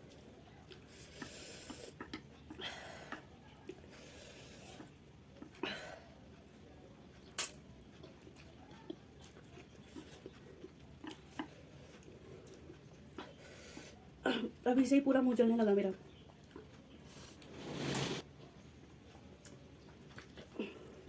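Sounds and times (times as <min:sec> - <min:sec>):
soft chewing: 0:00.0 - 0:21.0.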